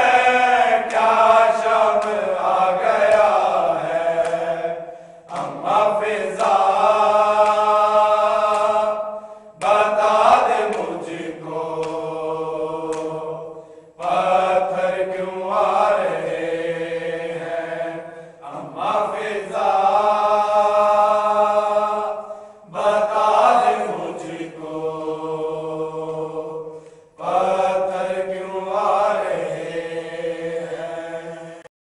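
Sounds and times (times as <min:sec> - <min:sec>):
men chanting a lament: 0:00.0 - 0:31.7.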